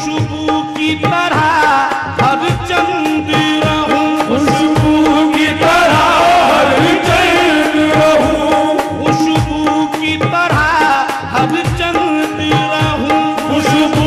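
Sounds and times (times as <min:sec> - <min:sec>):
hand drum beat: 0:00.0 - 0:14.0
man singing ornamented vocals: 0:00.0 - 0:14.0
harmonium holding notes: 0:01.8 - 0:14.0.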